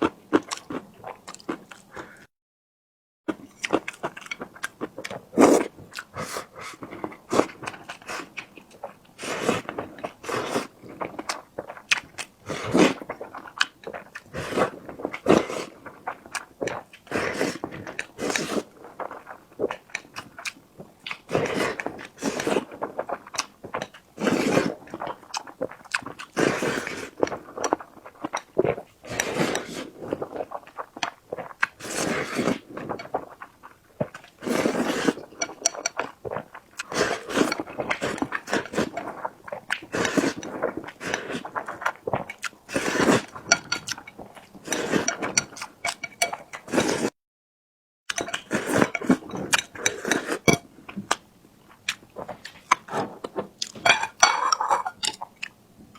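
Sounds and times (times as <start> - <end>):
chewing and mouth sounds: 0.0 - 2.2, 3.3 - 47.1, 48.1 - 55.6.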